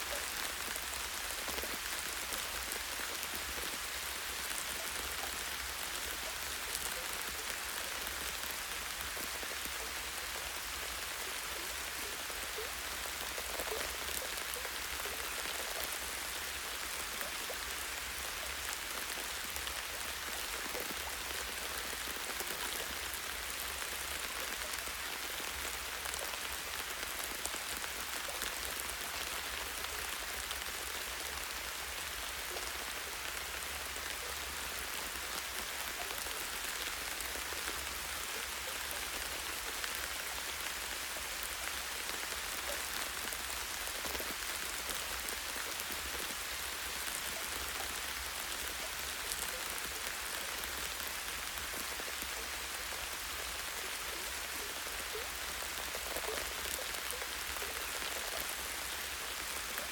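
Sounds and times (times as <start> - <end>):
light rain hiss: 0.0 - 59.9.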